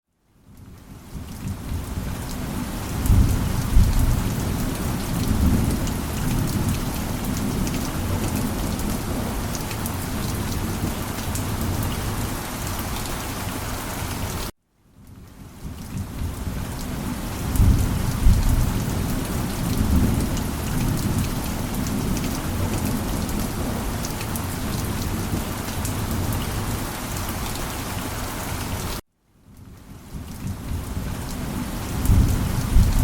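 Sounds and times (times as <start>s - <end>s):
low rumble of thunder: 0.5s - 12.4s, 15.0s - 26.8s, 29.6s - 33.0s
heavy rain falling: 0.5s - 14.5s, 15.1s - 29.0s, 29.7s - 33.0s.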